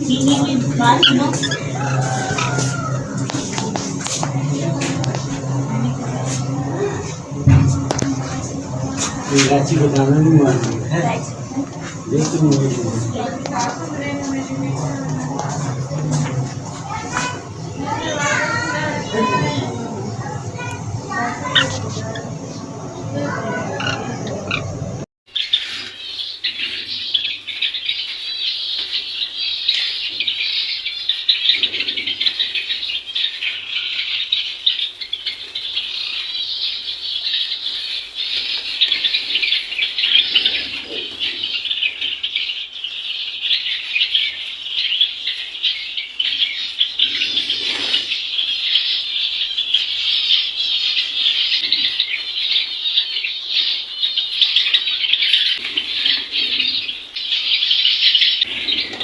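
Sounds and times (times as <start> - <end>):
caged birds chirping: 0.0 - 59.0.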